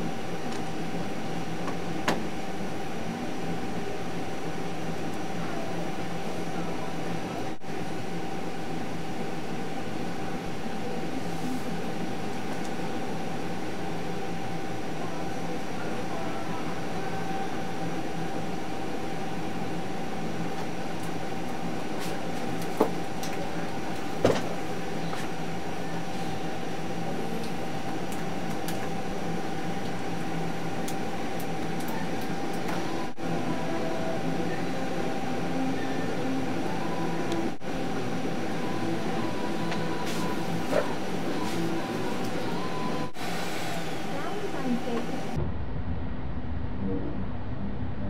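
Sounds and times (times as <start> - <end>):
robot motors and fans humming: 0.0 - 45.6.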